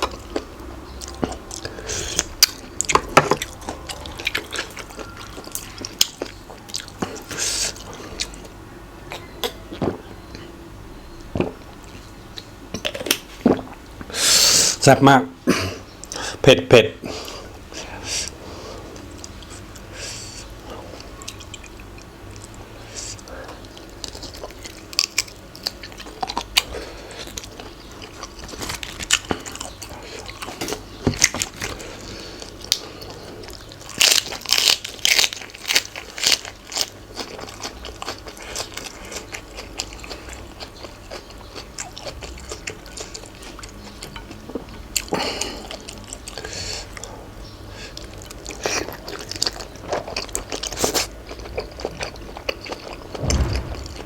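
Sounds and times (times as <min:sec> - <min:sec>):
person chewing crunchy food: 0:00.0 - 0:10.5, 0:17.3 - 0:47.1, 0:48.0 - 0:53.6.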